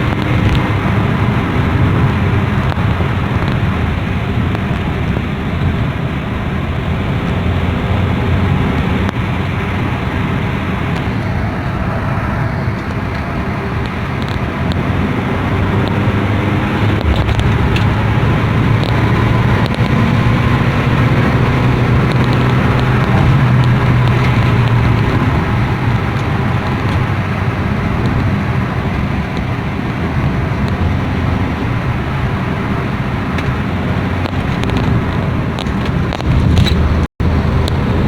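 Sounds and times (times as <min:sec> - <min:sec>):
car engine hum: 0:00.0 - 0:38.0
road and tyre noise: 0:00.0 - 0:38.0.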